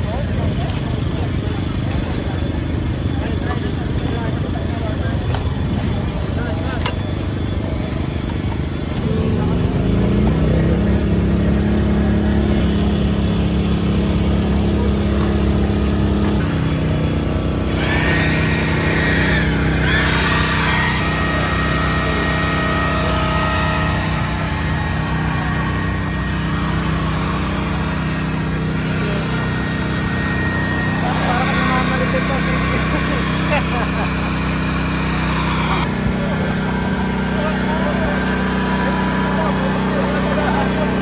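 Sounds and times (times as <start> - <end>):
motorcycle engine running: 0.0 - 41.0
thin steady whine: 0.0 - 41.0.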